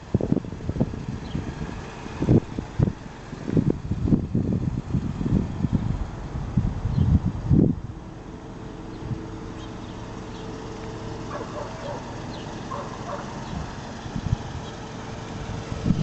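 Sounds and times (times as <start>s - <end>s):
car engine idling: 0.0s - 16.0s
loud engine rumble: 0.0s - 16.0s.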